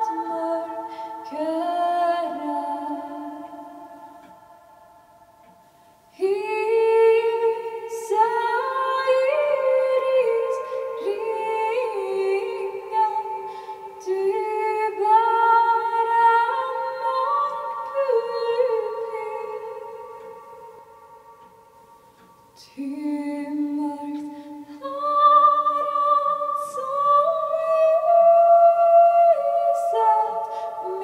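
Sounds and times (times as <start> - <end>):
woman singing a cappella: 0.0 - 5.0, 6.1 - 21.5, 22.5 - 31.0.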